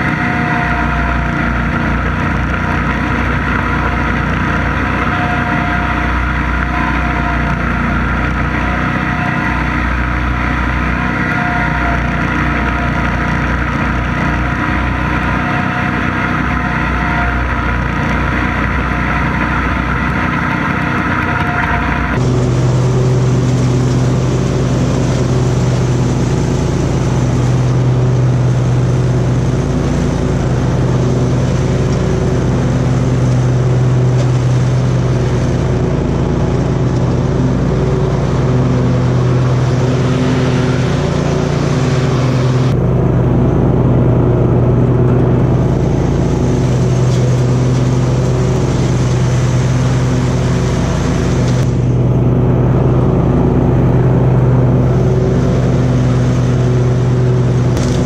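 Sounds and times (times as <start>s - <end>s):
mower engine droning: 0.0s - 58.0s.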